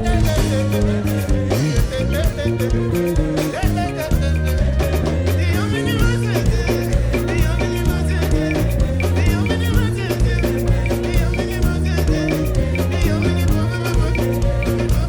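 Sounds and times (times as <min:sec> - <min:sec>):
sung vocals: 0:00.0 - 0:15.0
upbeat live band music: 0:00.0 - 0:15.0.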